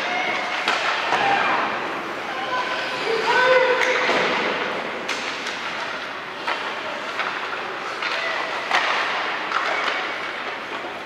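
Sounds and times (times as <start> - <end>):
hockey sticks and puck clacking: 0.0 - 1.6, 2.8 - 11.0.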